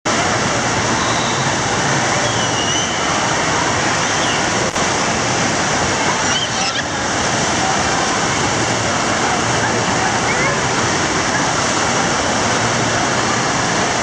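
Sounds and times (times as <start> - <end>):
waves breaking and churning: 0.1 - 14.0.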